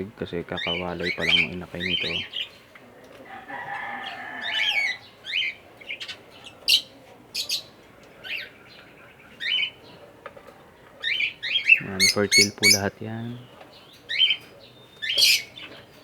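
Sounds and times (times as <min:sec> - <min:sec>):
birds chirping: 0:00.0 - 0:16.0
drawn-out bird call: 0:00.0 - 0:16.0.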